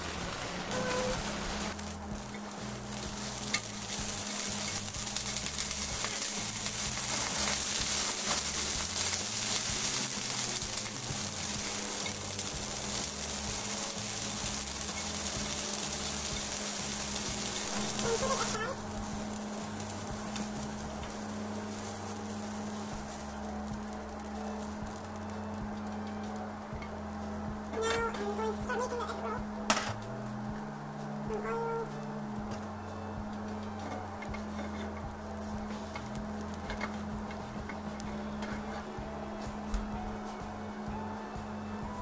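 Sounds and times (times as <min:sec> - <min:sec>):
oil sizzling in frying pan: 0:00.0 - 0:42.0.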